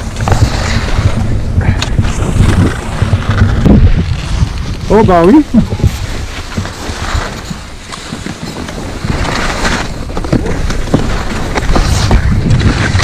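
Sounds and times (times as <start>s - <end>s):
skis scraping over snow: 0.0s - 13.0s
wind buffeting microphone: 0.0s - 13.0s.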